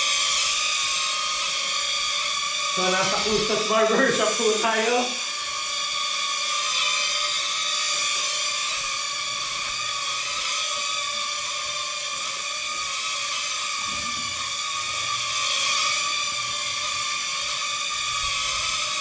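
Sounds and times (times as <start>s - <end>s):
toy aircraft motors whining: 0.0s - 19.0s.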